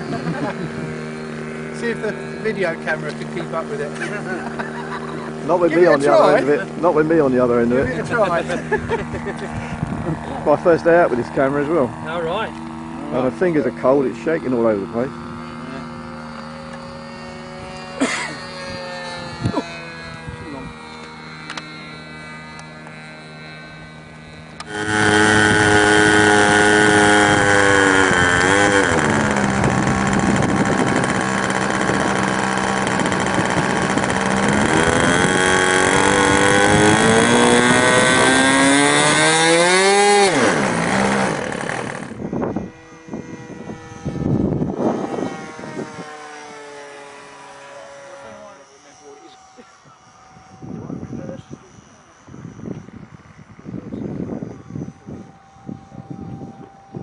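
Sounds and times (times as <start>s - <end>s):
model aeroplane engine buzzing: 0.0s - 57.0s.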